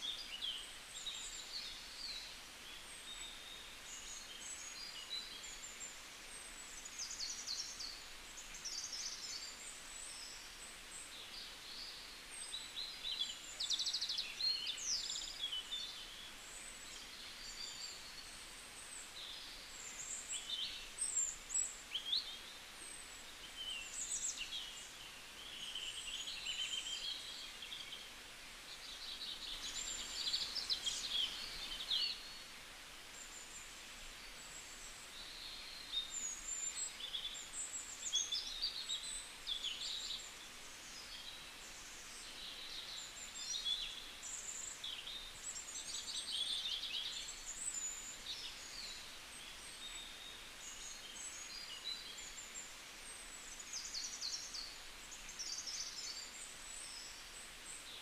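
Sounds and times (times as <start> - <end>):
faint hiss: 0.0 - 58.0
small birds chirping: 0.0 - 58.0.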